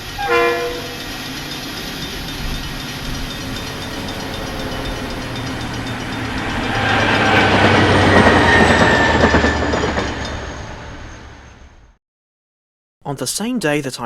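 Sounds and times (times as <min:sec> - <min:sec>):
train wheels clacking: 0:00.0 - 0:11.6
thin high squeal: 0:00.0 - 0:11.7
locomotive engine humming: 0:00.0 - 0:11.9.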